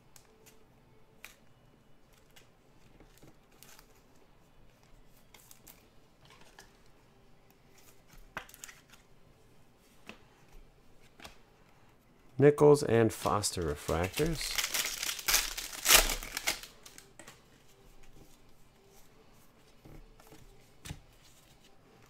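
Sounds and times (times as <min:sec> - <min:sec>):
trading cards rustling and ticking: 0:00.0 - 0:09.2, 0:12.8 - 0:22.0.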